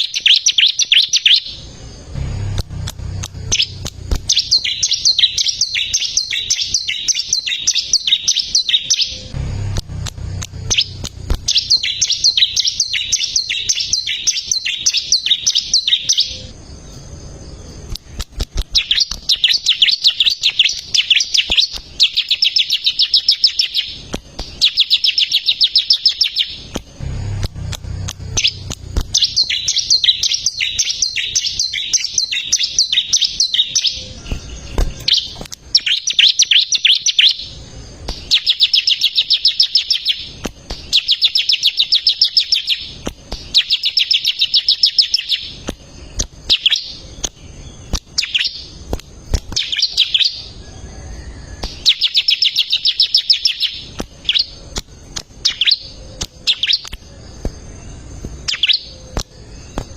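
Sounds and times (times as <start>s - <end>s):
bird singing high chirps: 0.0s - 59.9s.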